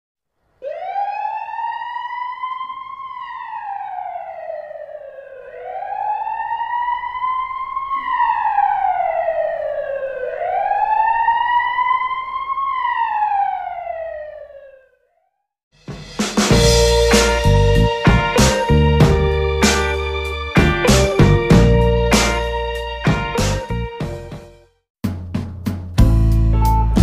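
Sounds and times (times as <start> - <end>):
wailing siren: 0.6 - 15.4, 16.6 - 24.0.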